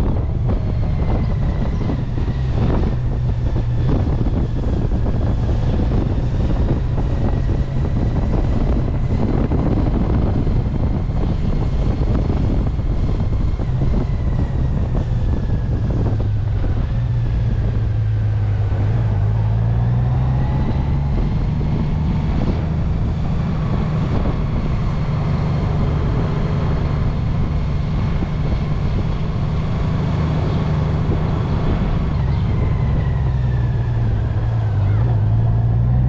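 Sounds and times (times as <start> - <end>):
wind noise on microphone: 0.0 - 36.0.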